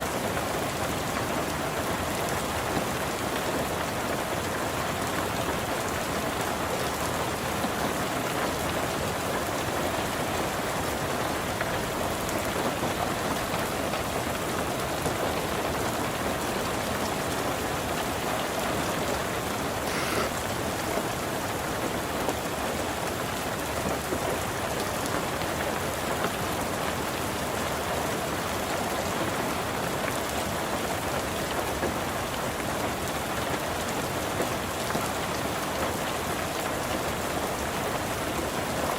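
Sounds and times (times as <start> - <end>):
rain hissing on a surface: 0.0 - 38.9.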